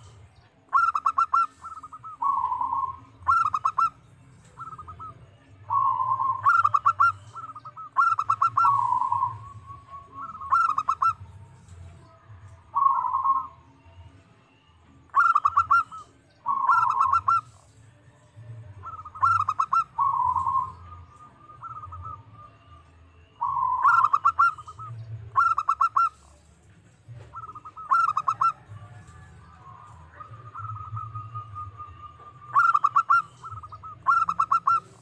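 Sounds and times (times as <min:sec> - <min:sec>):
dove cooing: 0:00.0 - 0:13.6, 0:15.1 - 0:17.7, 0:18.7 - 0:22.8, 0:23.4 - 0:26.5, 0:27.1 - 0:35.0.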